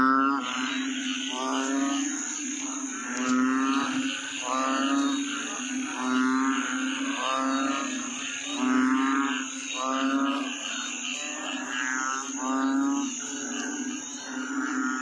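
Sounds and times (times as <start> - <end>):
frogs calling: 0.0 - 15.0
high insect drone: 0.0 - 15.0.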